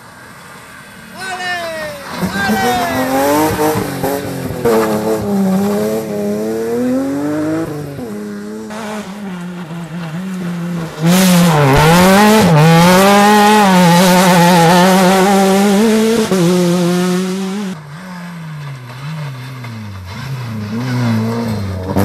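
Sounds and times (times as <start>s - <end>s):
rally car engine revving: 1.9s - 22.0s
rally car engine accelerating: 2.0s - 22.0s.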